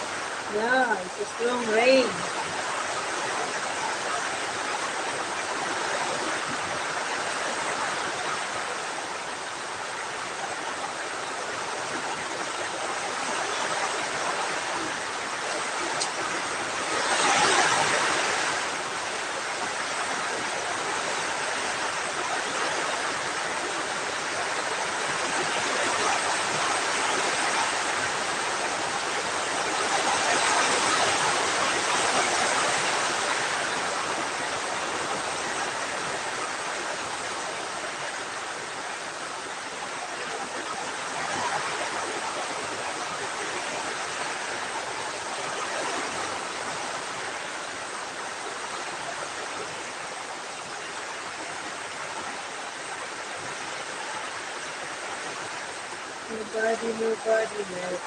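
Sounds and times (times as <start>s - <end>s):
heavy rain pouring: 0.0s - 51.2s, 51.8s - 58.0s.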